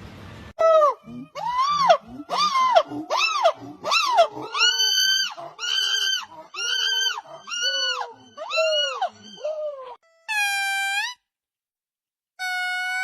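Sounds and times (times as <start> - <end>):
monkey squealing calls: 0.6 - 11.2.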